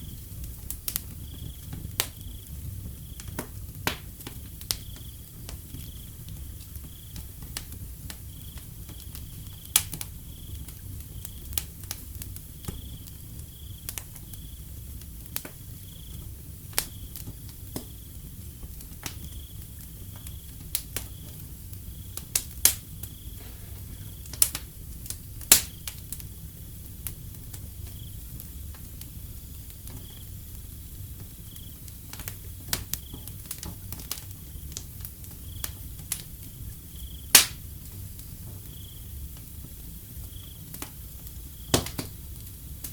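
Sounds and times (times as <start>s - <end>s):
crickets chirping: 0.0s - 3.4s, 4.4s - 7.5s, 8.2s - 15.0s, 15.6s - 42.9s
wood fire crackling and popping: 0.0s - 42.9s.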